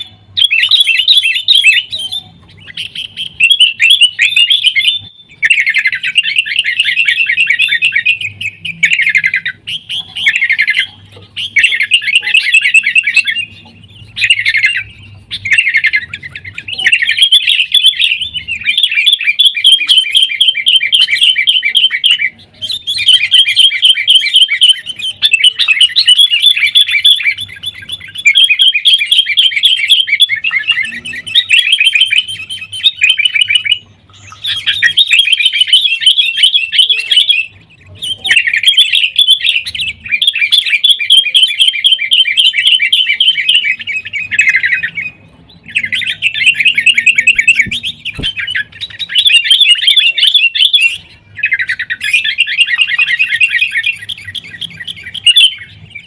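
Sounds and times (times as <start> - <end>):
bird chatter and trills: 0.0 - 56.0.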